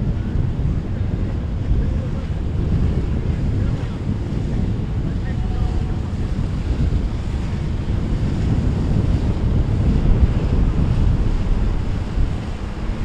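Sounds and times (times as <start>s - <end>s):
waves and surf: 0.0s - 13.0s
wind buffeting microphone: 0.0s - 13.0s.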